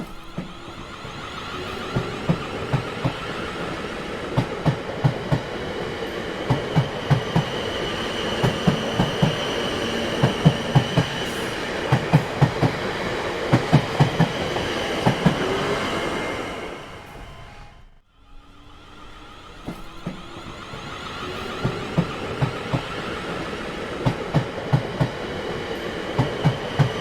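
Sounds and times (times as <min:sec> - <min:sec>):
train wheels clacking: 0:00.0 - 0:17.8, 0:19.0 - 0:27.0
train rumble: 0:00.0 - 0:27.0.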